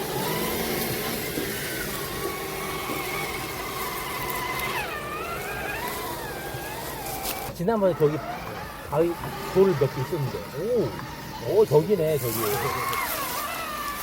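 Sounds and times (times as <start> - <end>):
toy car motor whining: 0.0 - 14.0.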